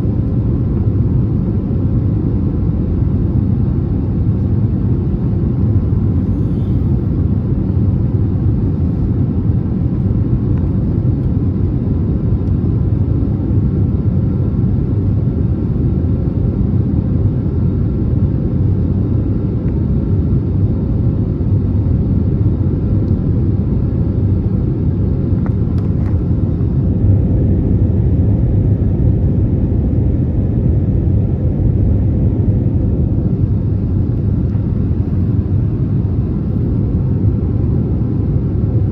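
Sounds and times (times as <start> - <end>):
faint engine whine: 0.0 - 38.9
jet engine cabin rumble: 0.0 - 38.9.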